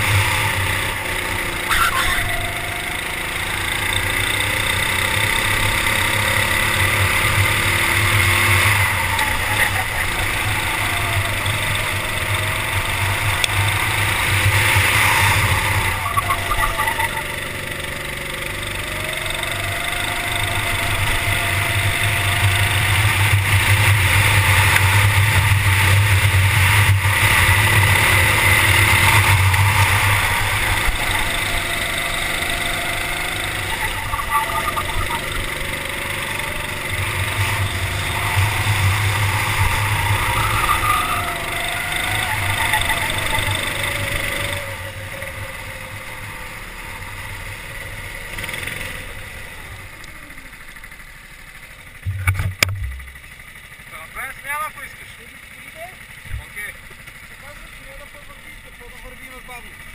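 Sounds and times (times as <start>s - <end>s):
go-kart engine revving: 0.0s - 59.9s.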